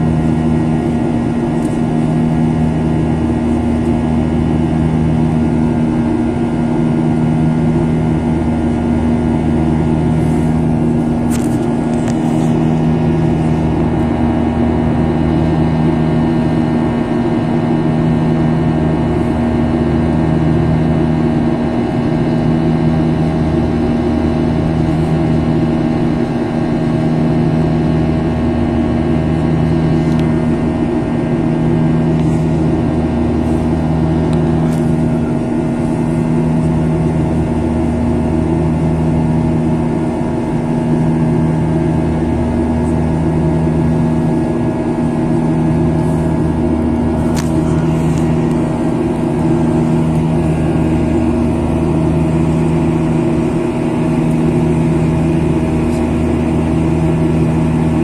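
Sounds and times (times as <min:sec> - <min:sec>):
jet engines droning in cabin: 0:00.0 - 0:58.0.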